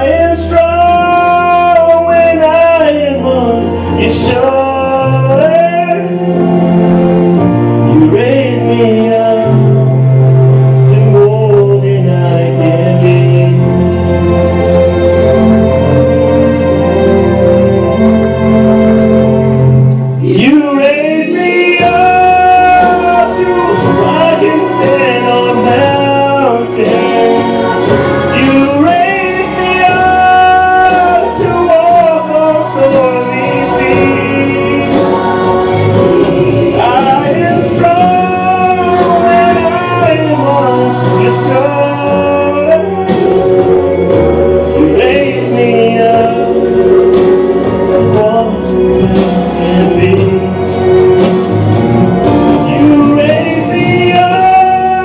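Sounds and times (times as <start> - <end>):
man singing slow song: 0.0 - 6.5, 7.8 - 9.9, 10.8 - 14.0, 20.2 - 51.2, 52.5 - 55.0
instrumental accompaniment: 0.0 - 55.0.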